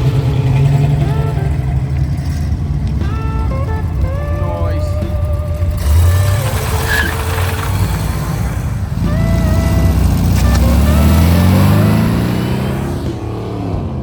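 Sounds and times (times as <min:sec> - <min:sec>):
background music: 0:00.0 - 0:14.0
car engine accelerating: 0:00.0 - 0:14.0.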